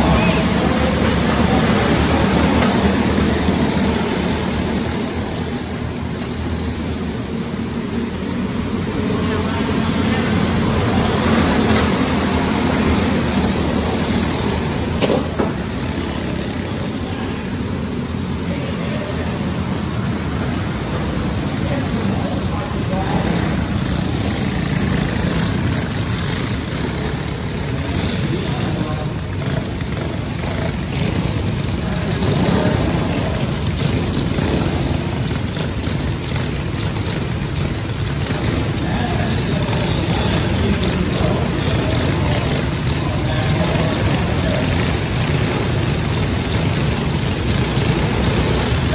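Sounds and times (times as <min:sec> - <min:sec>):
go-kart engines racing: 0:00.0 - 0:48.9.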